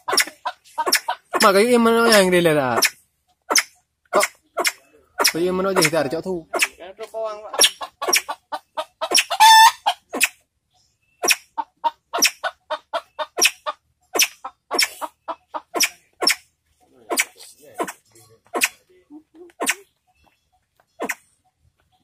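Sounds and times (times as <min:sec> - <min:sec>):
pheasant clucking calls: 0:00.0 - 0:22.0.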